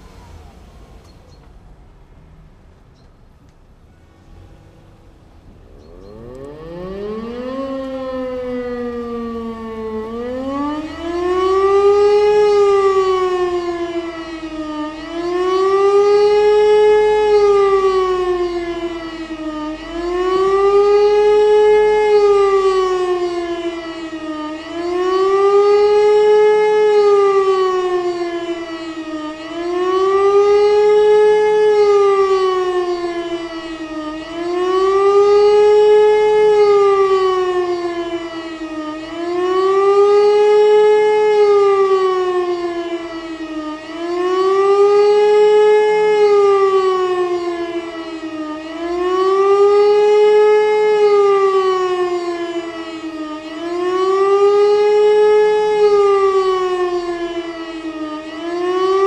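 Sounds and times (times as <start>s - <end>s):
electric motor siren wailing: 0.0s - 1.3s, 4.3s - 59.0s.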